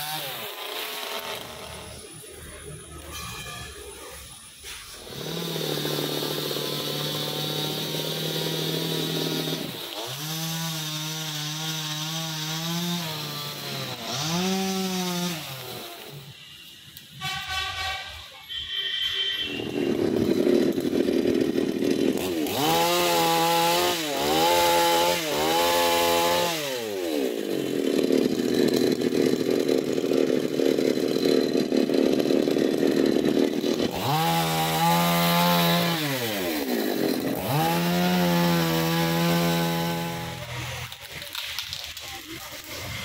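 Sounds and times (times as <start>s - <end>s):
chainsaw revving: 0.0s - 2.8s, 5.0s - 16.4s, 19.6s - 43.0s.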